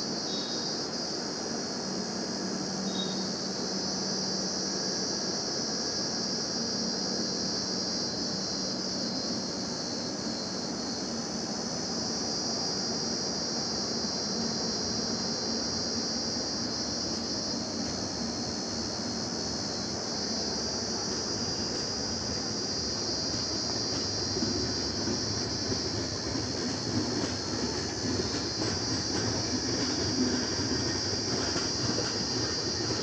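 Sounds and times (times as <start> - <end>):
high hiss: 0.0 - 33.0
train wheels rumbling on rail: 0.0 - 33.0.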